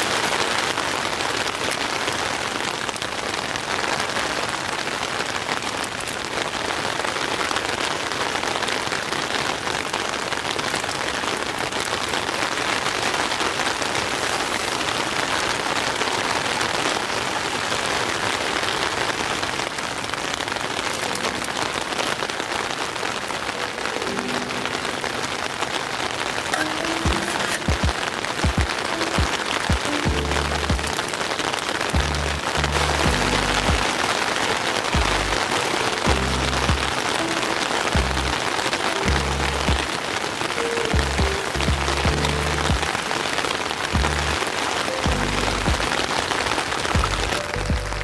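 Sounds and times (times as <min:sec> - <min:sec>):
rain pattering on a tent: 0:00.0 - 0:48.0.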